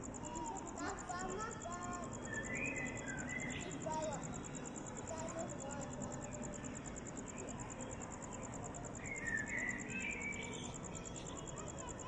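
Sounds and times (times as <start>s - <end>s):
high-pitched insect chirping: 0.0s - 12.0s
low background murmur: 0.0s - 12.0s.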